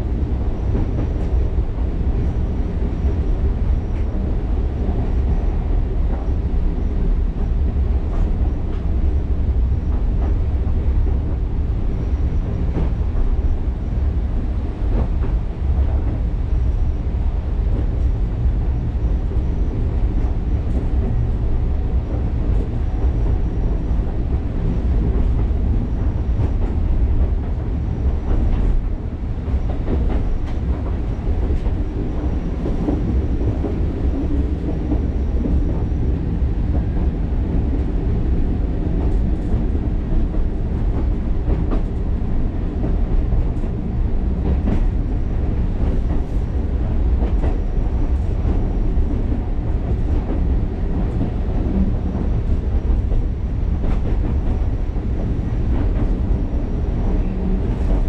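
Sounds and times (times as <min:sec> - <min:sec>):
train rumbling along track: 0:00.0 - 0:58.0.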